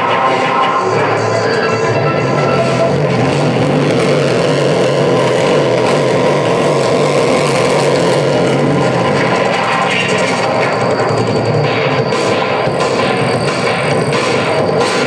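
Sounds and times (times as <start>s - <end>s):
dense wall of noise music: 0.0s - 15.0s
wavering low hum: 0.0s - 15.0s.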